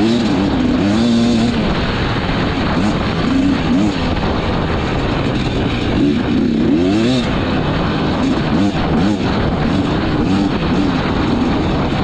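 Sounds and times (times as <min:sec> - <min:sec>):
dirt bike engine revving: 0:00.0 - 0:12.0
rush of riding noise: 0:00.0 - 0:12.0.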